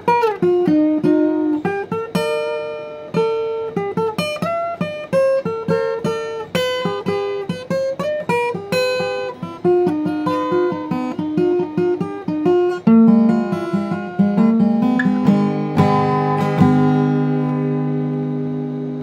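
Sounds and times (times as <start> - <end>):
acoustic blues guitar: 0.0 - 19.0.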